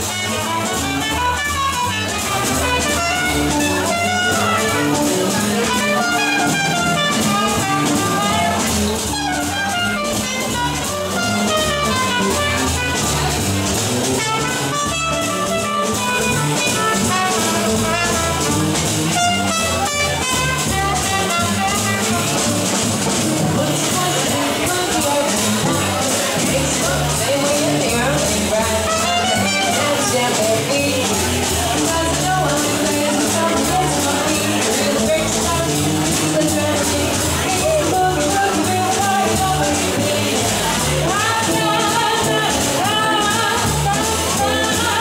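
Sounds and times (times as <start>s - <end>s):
swing band playing jazz: 0.0s - 45.0s.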